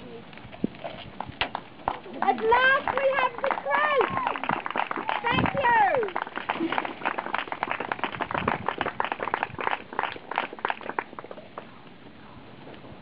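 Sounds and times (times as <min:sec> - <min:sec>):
small group clapping: 0:01.2 - 0:11.7.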